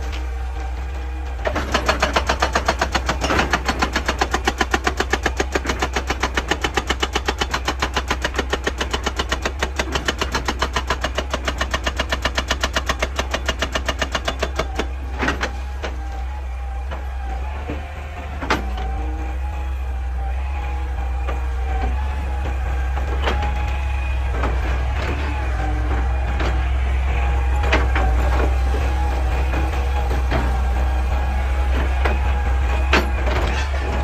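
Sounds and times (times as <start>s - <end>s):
hydraulic breaker hammering rock: 0.0s - 34.0s
machine engine hum: 0.0s - 34.0s.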